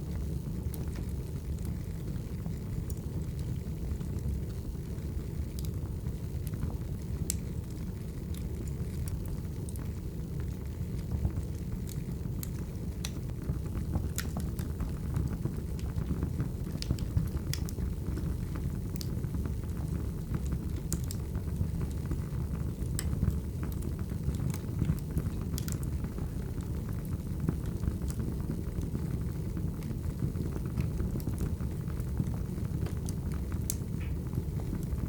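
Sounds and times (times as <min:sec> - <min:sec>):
fire crackles and pops: 0:00.0 - 0:35.0
wood fire rumbling: 0:00.0 - 0:35.0.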